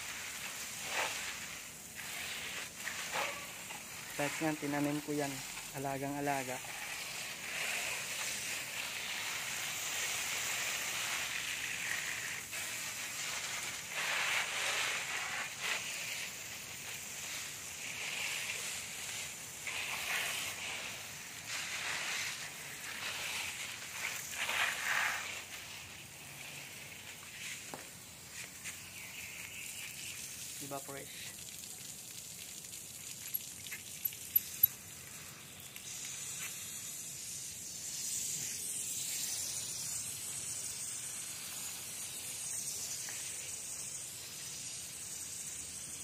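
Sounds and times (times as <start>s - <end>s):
hose spraying water on leaves: 0.0s - 46.0s.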